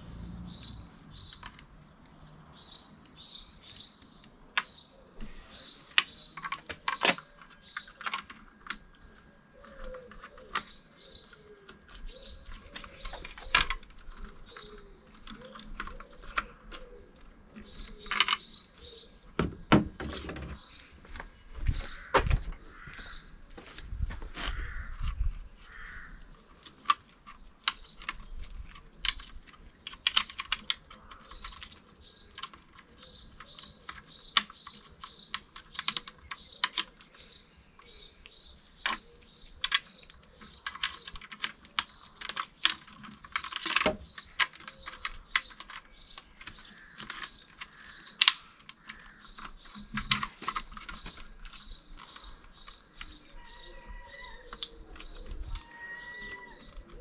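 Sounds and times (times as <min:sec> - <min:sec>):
bird chirping: 0:00.0 - 0:23.5, 0:27.3 - 0:57.0
plastic clicks and rattles: 0:03.0 - 0:20.6, 0:24.4 - 0:57.0.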